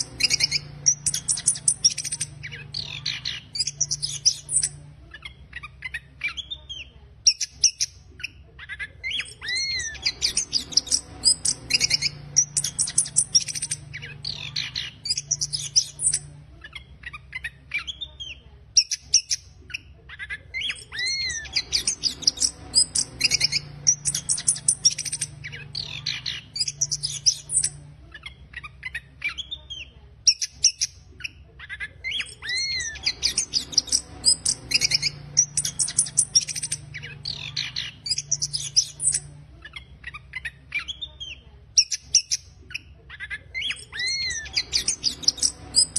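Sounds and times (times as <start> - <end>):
thrush singing twittering song: 0.0 - 45.9.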